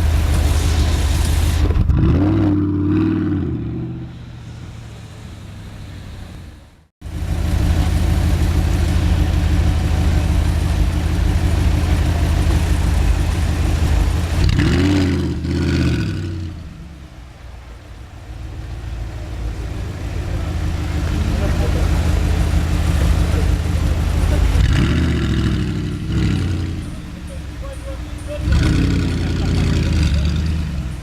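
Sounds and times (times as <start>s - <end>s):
sports car engine revving: 0.0s - 31.0s.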